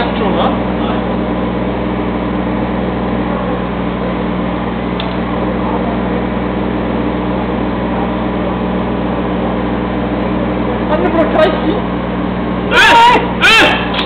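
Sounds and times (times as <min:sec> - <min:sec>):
excavator engine running: 0:00.0 - 0:14.0.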